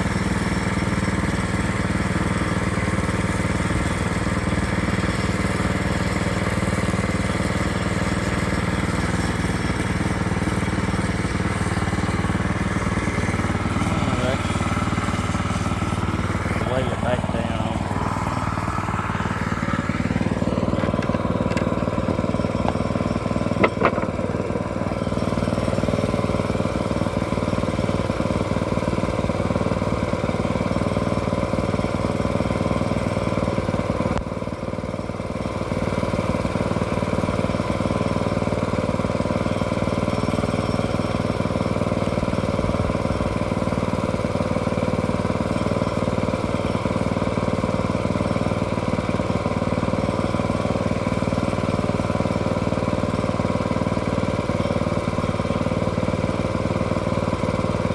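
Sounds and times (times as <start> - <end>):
engine running steadily: 0.0 - 57.9.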